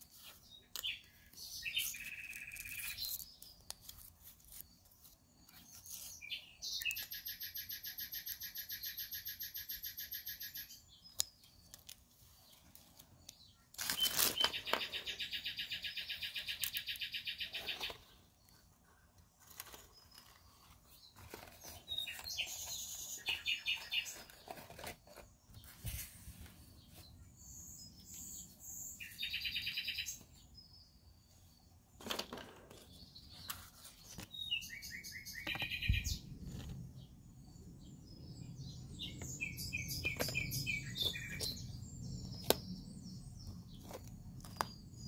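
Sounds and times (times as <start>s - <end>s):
bird chirping and trilling: 0.5s - 4.8s, 5.4s - 11.7s, 13.4s - 18.2s, 19.7s - 25.7s, 26.9s - 31.6s, 32.7s - 45.0s.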